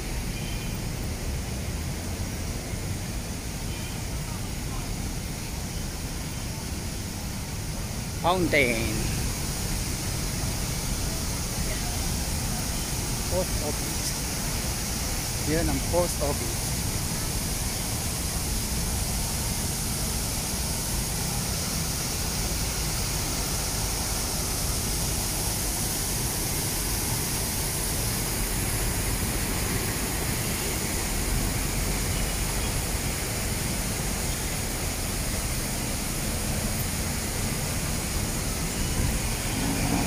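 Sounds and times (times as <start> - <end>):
fountain water splashing: 0.0 - 40.0
street traffic: 0.0 - 40.0.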